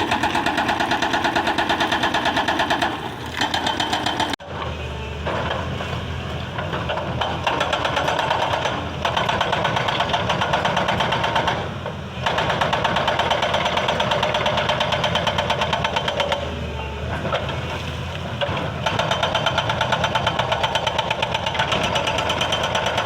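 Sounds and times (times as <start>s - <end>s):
hydraulic rock breaker hammering: 0.0s - 5.7s, 6.5s - 23.0s
diesel engine running: 0.0s - 23.0s.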